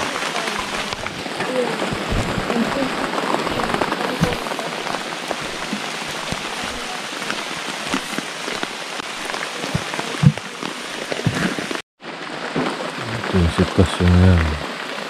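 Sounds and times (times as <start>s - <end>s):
louder raindrops: 0.0s - 15.0s
steady rain falling: 0.0s - 15.0s.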